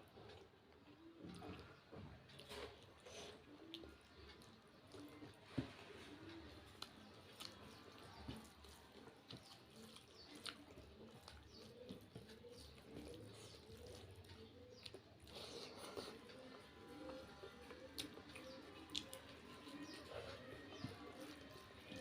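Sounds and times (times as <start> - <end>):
wet chewing: 0.0 - 22.0.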